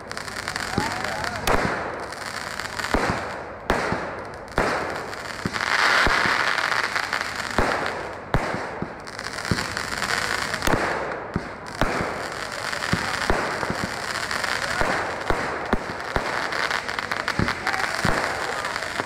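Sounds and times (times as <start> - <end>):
continuous hiss: 0.0 - 19.0
fireworks bangs: 0.0 - 19.0.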